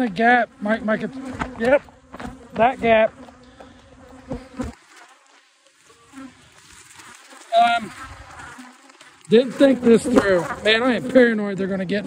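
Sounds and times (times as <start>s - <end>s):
swarm of bees buzzing: 0.0s - 12.0s
single bee buzzing past: 0.5s - 11.4s.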